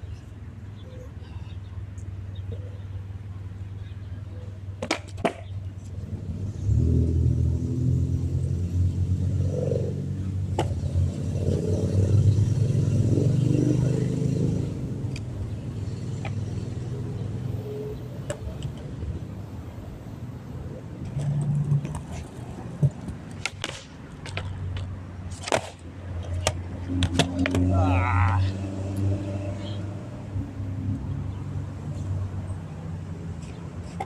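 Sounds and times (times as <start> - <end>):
engine hum: 0.0 - 34.0.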